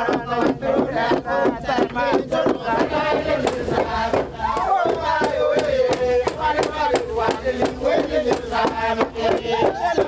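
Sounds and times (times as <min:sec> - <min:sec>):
group singing a chant: 0:00.0 - 0:10.0
quick steady beat: 0:00.0 - 0:10.0.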